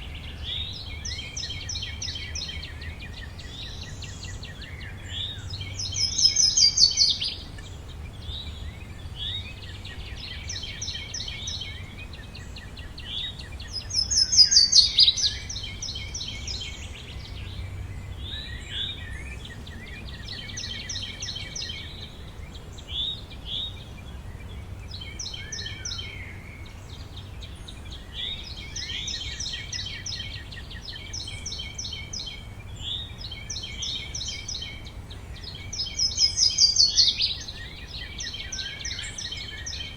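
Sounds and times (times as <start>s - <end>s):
bird song sweeping downward: 0.0s - 39.9s
songbirds singing: 0.0s - 39.9s.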